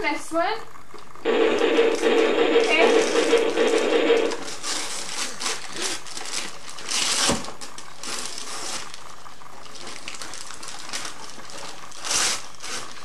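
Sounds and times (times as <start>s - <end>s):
wrapping paper rustling and tearing: 1.6s - 13.0s.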